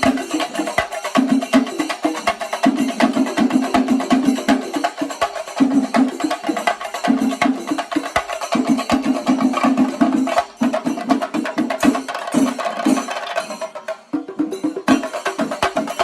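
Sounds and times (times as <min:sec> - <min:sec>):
drums beaten with sticks: 0:00.0 - 0:16.0.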